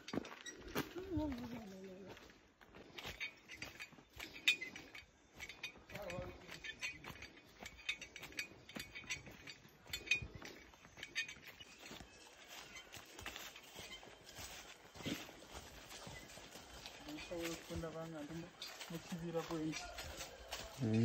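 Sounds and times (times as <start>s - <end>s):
footsteps crunching on dry leaves: 0.0s - 7.6s, 8.2s - 21.0s.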